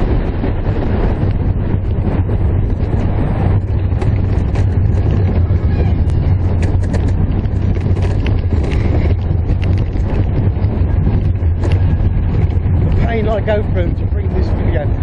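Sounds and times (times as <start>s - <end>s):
rattles and clicks from cars: 0.0s - 15.0s
roller coaster running on track: 0.0s - 15.0s
wind buffeting microphone: 0.0s - 15.0s.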